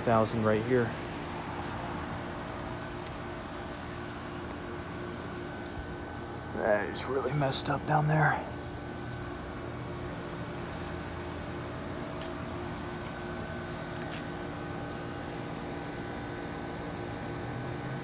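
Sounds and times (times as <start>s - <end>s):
heat pump units humming: 0.0s - 18.0s.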